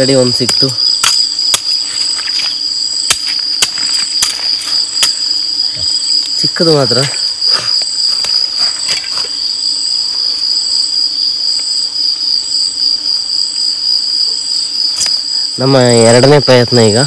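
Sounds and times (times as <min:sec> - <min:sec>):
crickets high-pitched drone: 0:00.0 - 0:17.0
pulsing insect trill: 0:00.0 - 0:17.0.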